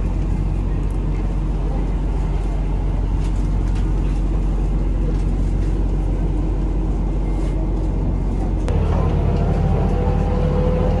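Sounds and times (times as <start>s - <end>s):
railcar engine rumble: 0.0s - 11.0s.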